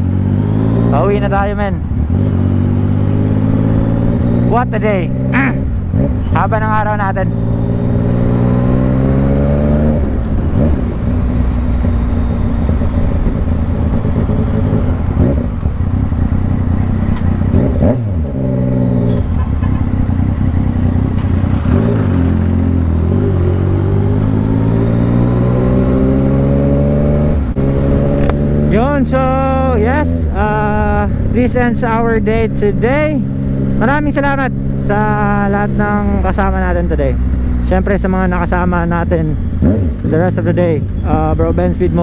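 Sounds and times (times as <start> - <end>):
motorcycle engine shifting gears: 0.0 - 42.0.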